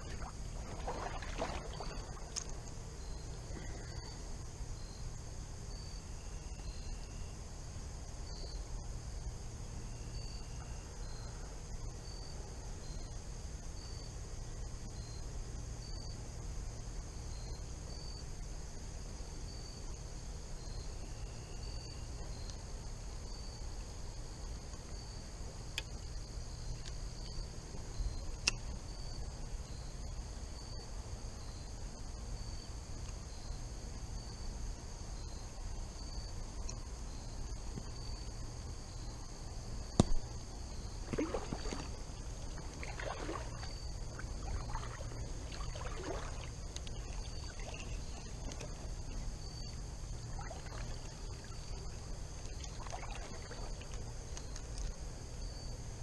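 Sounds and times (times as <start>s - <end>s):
water sloshing in a creek: 0.0s - 7.0s, 17.0s - 56.0s
insect trill: 0.0s - 56.0s.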